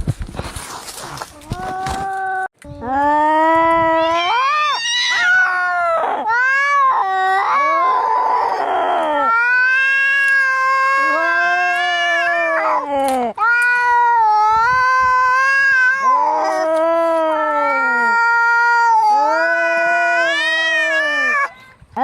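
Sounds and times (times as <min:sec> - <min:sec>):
angry cats yowling: 0:03.8 - 0:21.5.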